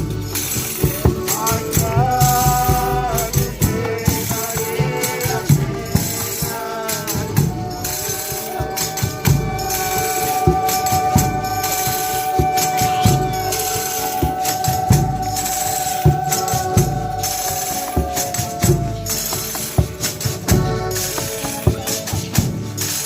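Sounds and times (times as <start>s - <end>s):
folk melody: 0.0s - 23.0s
rattling percussion: 0.0s - 23.0s
tambourine jingles: 0.0s - 23.0s.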